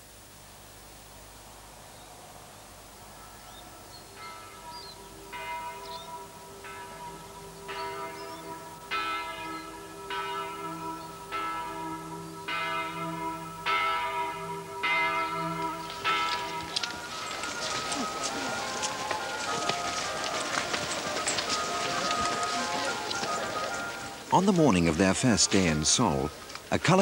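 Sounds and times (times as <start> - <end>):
church bells ringing: 3.1 - 27.0.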